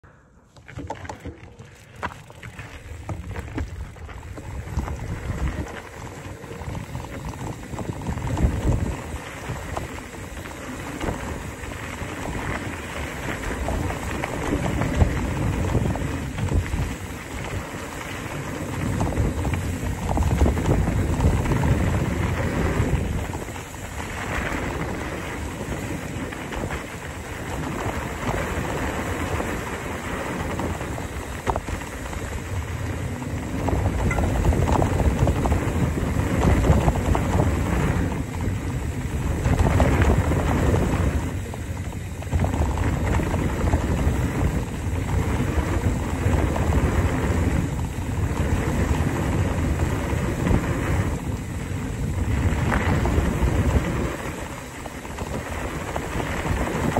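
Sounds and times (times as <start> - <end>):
rumble and crunch on gravel trail: 0.0 - 56.9
wind buffeting microphone: 0.8 - 56.9.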